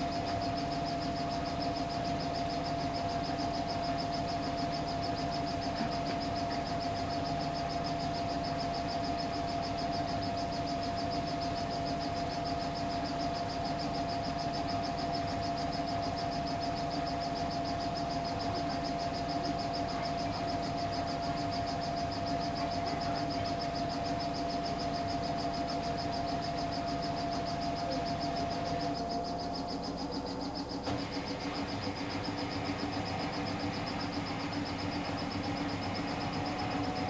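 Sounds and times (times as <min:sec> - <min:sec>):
washing machine motor whine: 0:00.0 - 0:37.0.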